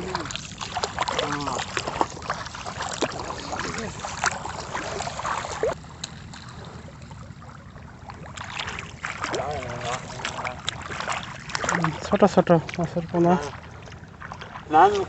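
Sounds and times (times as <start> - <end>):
water splashing: 0.0 - 15.0
water trickling: 0.0 - 15.0.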